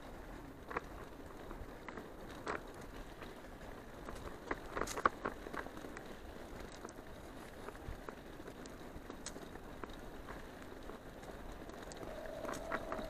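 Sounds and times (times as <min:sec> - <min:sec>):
bicycle clicks and rattles: 0:00.0 - 0:13.0
bicycle tyres rumbling on dirt: 0:00.0 - 0:13.0.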